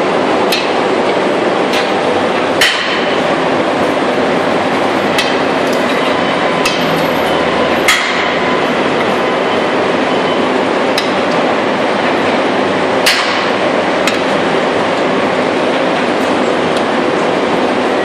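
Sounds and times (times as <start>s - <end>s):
machinery noise: 0.0s - 18.0s.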